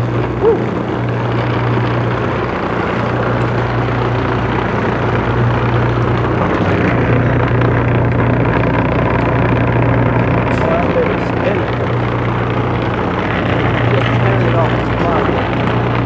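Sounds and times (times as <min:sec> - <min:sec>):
disc sander motor humming: 0:00.0 - 0:16.0.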